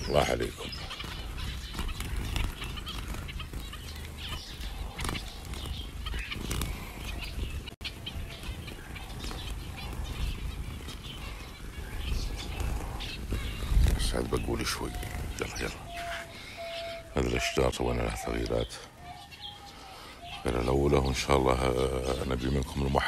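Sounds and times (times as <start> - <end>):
finches chirping: 0.0 - 23.0
wings fluttering: 0.0 - 23.0.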